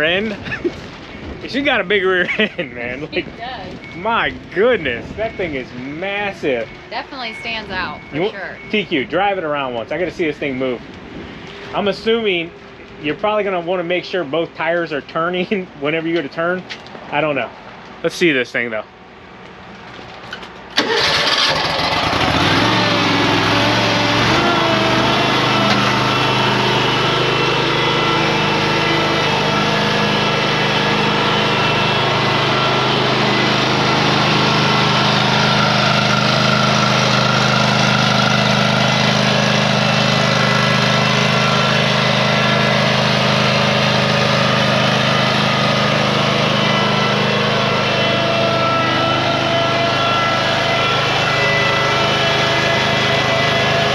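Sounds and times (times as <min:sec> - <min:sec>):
mower engine starting and running: 0:00.0 - 0:10.8, 0:19.4 - 0:53.9.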